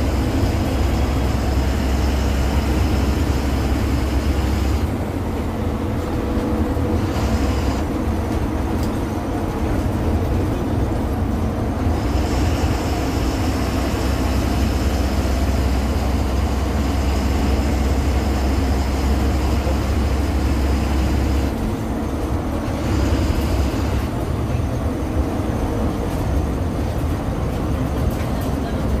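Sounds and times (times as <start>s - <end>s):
bus engine drone and road noise: 0.0s - 29.0s.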